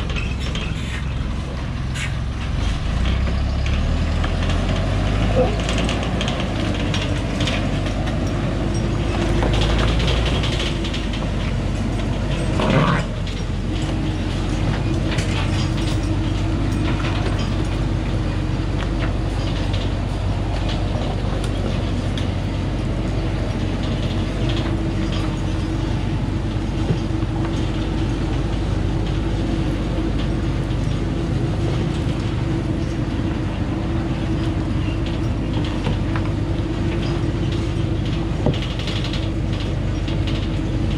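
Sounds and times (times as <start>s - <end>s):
cargo body and chains rattling: 0.0s - 40.9s
diesel truck engine under load: 0.0s - 40.9s.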